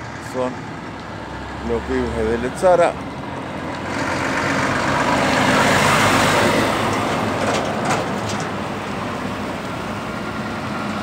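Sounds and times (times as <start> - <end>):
car passing: 0.0 - 11.0
truck driving past: 0.0 - 11.0.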